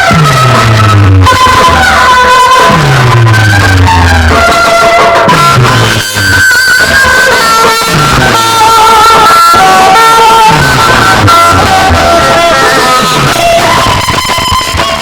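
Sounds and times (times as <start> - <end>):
loud compressed music with deep bass: 0.0 - 15.0.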